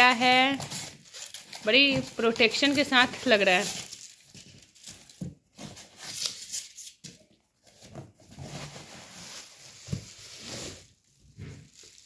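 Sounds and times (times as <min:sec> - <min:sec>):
bubble wrap crinkling: 0:00.0 - 0:07.0, 0:07.6 - 0:12.0.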